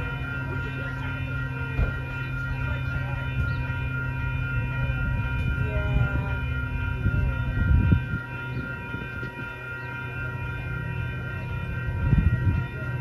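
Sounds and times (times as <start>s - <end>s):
train locomotive rumbling: 0.0s - 13.0s.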